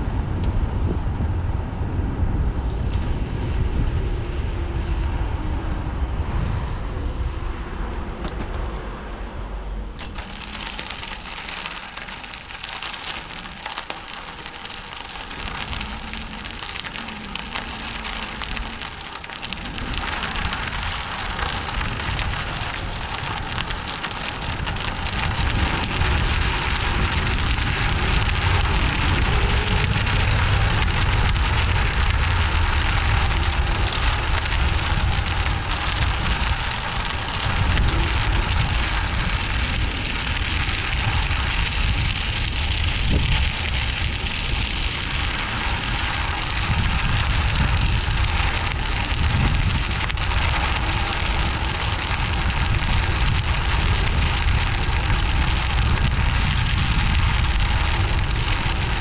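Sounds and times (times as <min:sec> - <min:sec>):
wind rumbling on microphone: 0:00.0 - 0:59.0
bicycle tyres crunching on gravel: 0:10.0 - 0:59.0.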